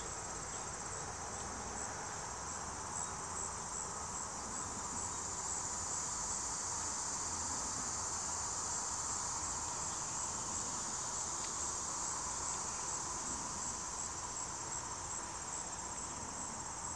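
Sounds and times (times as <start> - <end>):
insect chorus trilling: 0.0 - 16.9.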